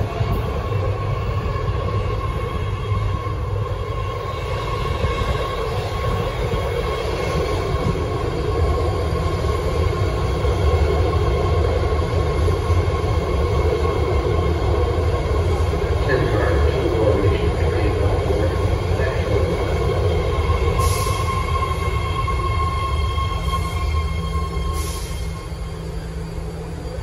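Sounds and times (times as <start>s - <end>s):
train high whine: 0.0s - 27.0s
train rumble: 0.0s - 27.0s.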